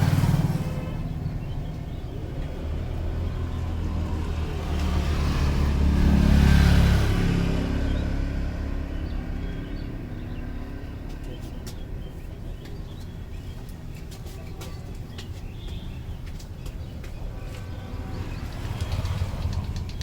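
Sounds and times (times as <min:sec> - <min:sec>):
motor vehicle passing by: 0:00.0 - 0:13.9, 0:15.2 - 0:20.0.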